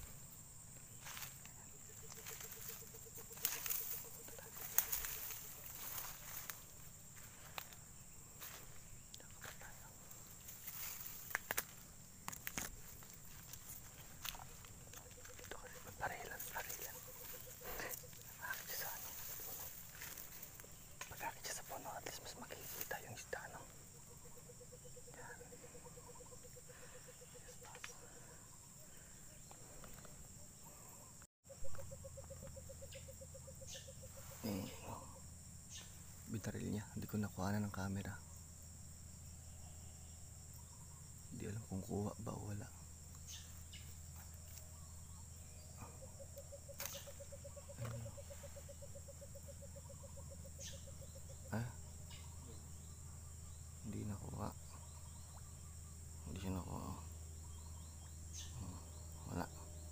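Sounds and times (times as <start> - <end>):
insects buzzing high-pitched: 0.0 - 59.9
rapid pulsed insect call: 0.0 - 59.9.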